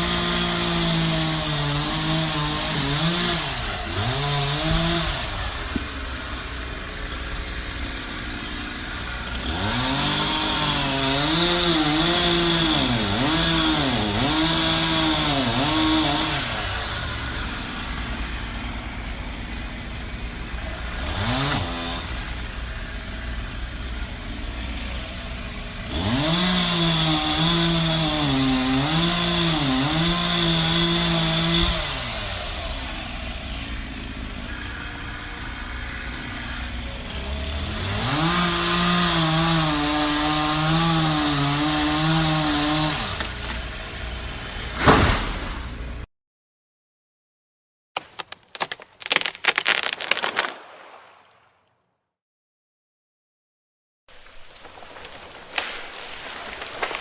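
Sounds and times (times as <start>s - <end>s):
chainsaw cutting wood: 0.0s - 46.1s, 48.0s - 51.0s, 54.1s - 57.0s.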